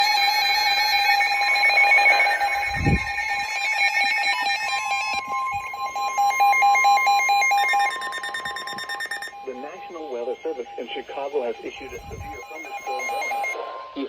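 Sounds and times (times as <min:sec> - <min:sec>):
electronic alarm beeps: 0:00.0 - 0:13.6
steady weather alert tone: 0:00.0 - 0:14.0.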